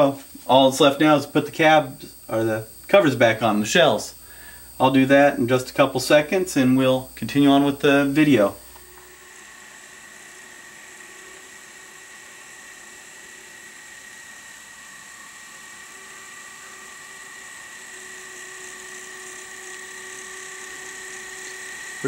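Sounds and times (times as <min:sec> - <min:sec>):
model locomotive motors whining: 0:00.0 - 0:22.0.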